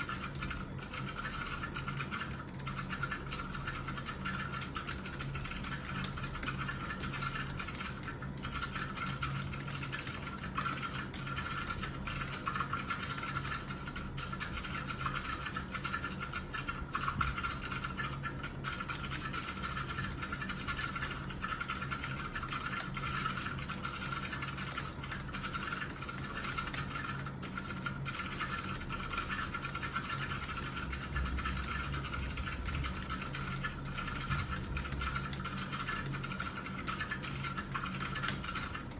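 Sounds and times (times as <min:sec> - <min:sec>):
fast typing on keyboard: 0:00.0 - 0:38.9
steady low hum: 0:00.0 - 0:38.9.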